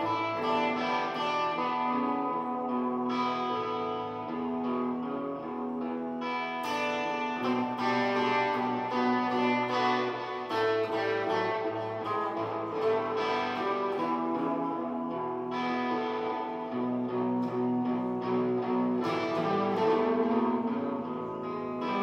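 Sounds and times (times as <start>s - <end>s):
blues guitar playing: 0.0s - 22.0s.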